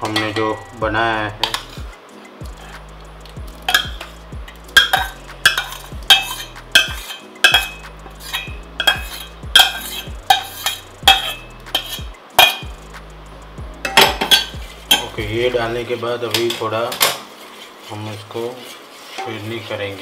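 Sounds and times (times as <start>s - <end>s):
steel spoon scraping a pan: 1.3s - 12.7s, 13.9s - 20.0s.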